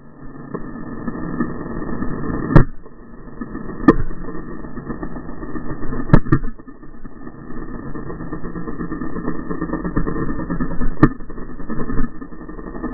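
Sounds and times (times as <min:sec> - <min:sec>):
motocross bike engine: 0:02.5 - 0:12.9.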